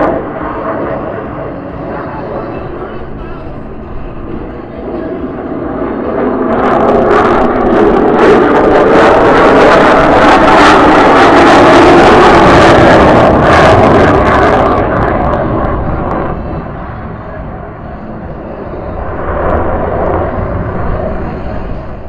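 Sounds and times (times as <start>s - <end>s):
jet engine roaring with crackle: 0.0s - 22.0s.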